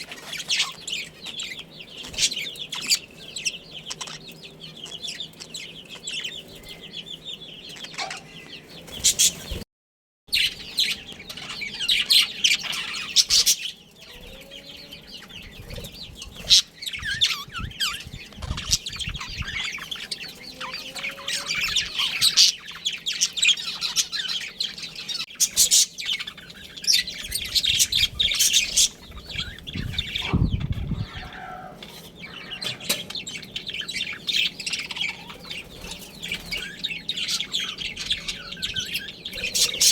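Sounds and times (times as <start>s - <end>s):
budgerigars chattering: 0.0s - 9.6s, 10.3s - 39.9s.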